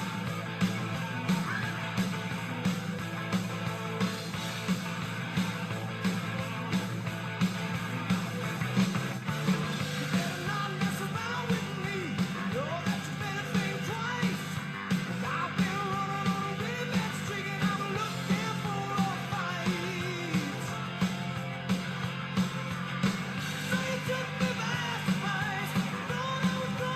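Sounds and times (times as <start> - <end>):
rock song with guitar and singing: 0.0 - 26.9.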